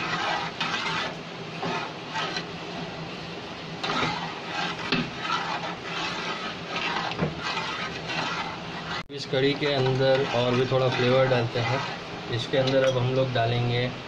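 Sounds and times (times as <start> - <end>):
metal ladle scraping metal pot: 0.0 - 2.5, 3.8 - 13.0.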